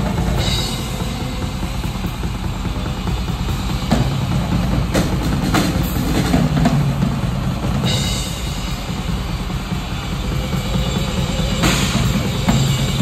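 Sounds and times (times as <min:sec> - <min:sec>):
cymbals crashing: 0:00.0 - 0:13.0.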